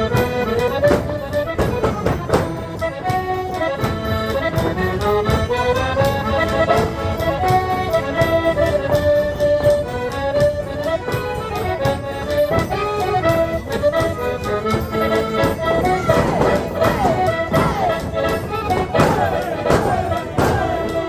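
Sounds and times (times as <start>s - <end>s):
accordion folk dance music: 0.0s - 21.0s.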